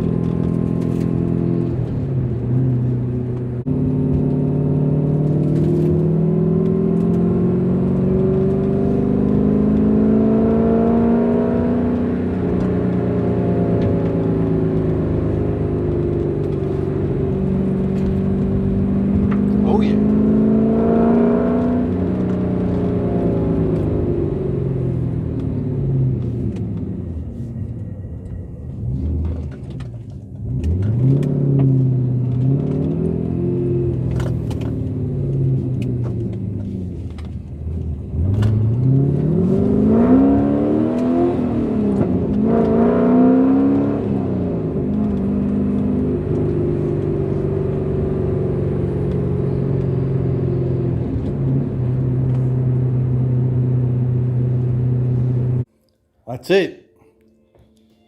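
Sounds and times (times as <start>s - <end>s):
car engine accelerating: 0.0s - 55.7s.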